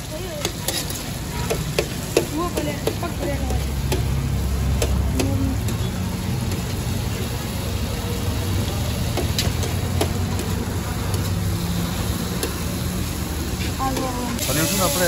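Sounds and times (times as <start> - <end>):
liver frying: 0.0 - 15.0.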